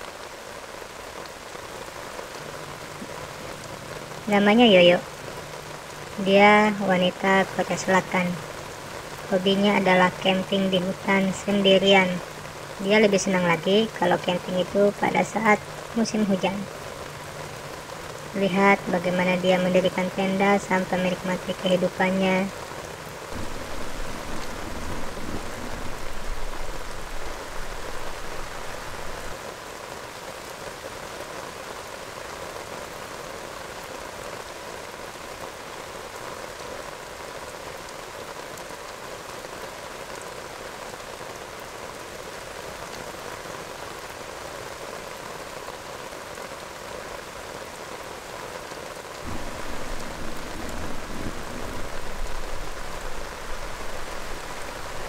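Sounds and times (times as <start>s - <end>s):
heavy rain pattering on tent fabric: 0.0s - 55.0s.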